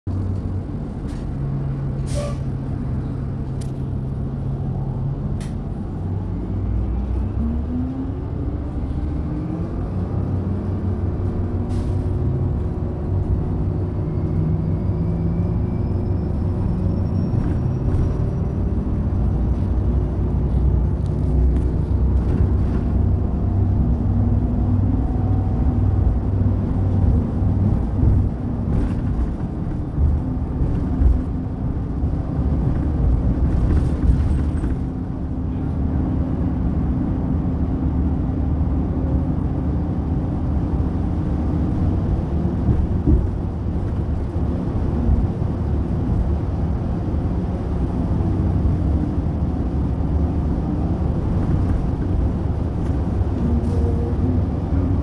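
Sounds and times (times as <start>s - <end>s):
diesel engine low rumble: 0.0s - 55.0s.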